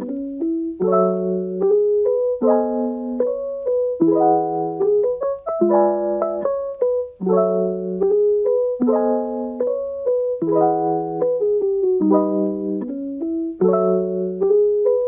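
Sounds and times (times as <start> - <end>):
slow solo piano piece: 0.0 - 15.0.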